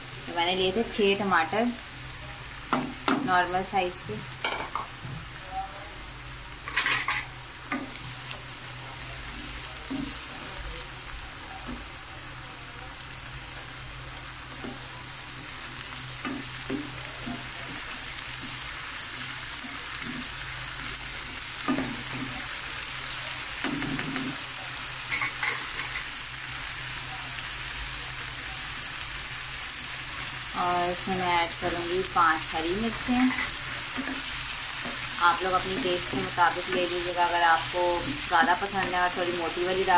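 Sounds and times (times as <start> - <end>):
food sizzling in frying pan: 0.0 - 39.9.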